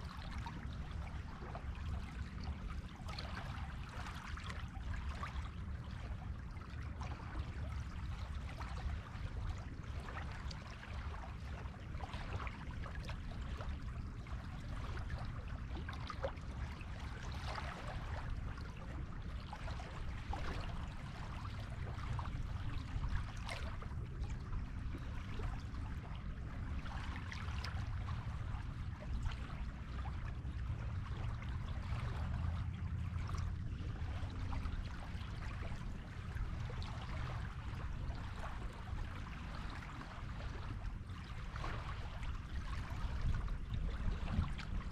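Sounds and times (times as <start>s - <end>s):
rumble of surf: 0.0s - 44.9s.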